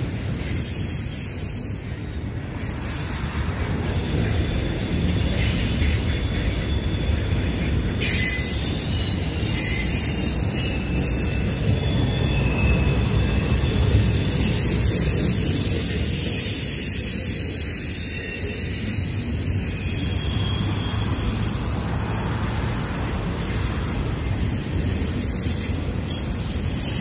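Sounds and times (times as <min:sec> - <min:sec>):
steel wheels rumbling on rail: 0:00.0 - 0:27.0
high wheel squealing: 0:02.7 - 0:27.0.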